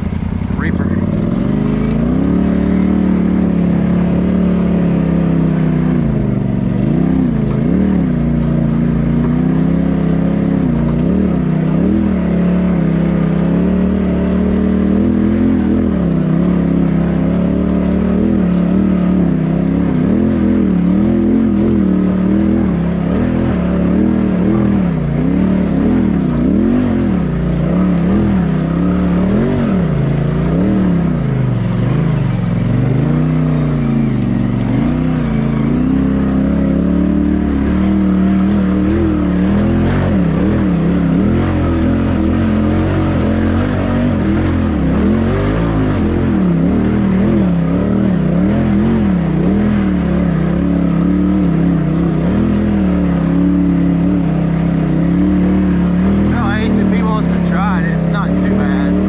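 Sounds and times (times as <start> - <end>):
engine revving with throttle blips: 0.0 - 59.0.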